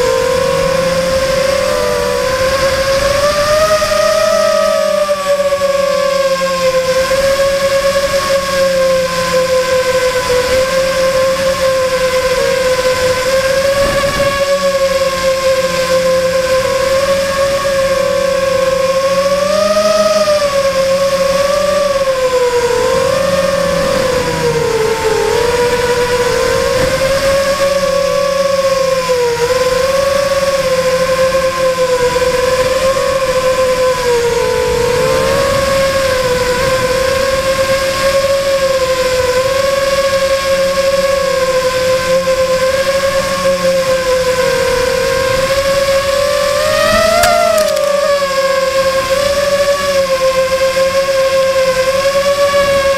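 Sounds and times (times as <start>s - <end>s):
model aircraft motor whining: 0.0s - 52.9s.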